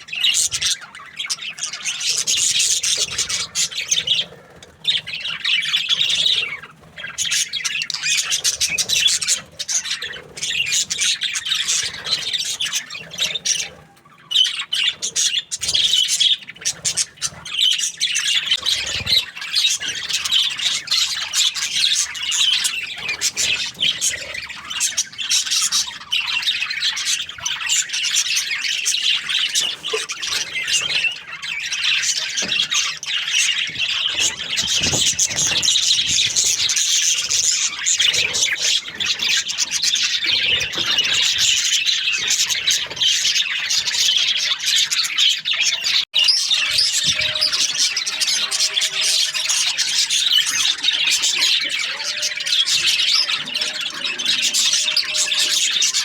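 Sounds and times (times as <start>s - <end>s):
budgerigars chirping and chattering: 0.0s - 56.0s
harsh squawks: 0.0s - 56.0s.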